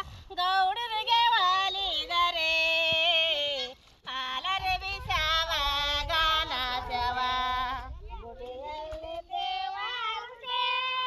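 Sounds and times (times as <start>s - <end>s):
woman singing a folk work song: 0.0s - 11.0s.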